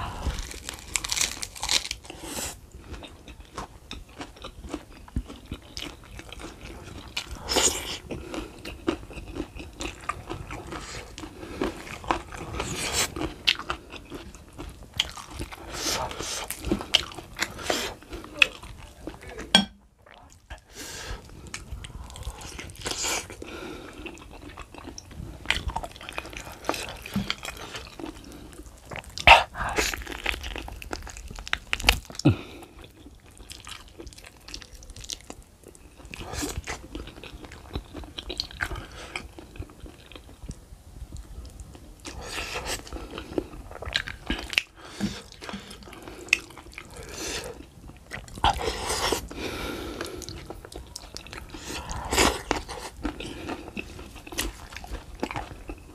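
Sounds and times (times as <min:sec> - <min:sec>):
person chewing with crunches: 0:00.0 - 0:55.9.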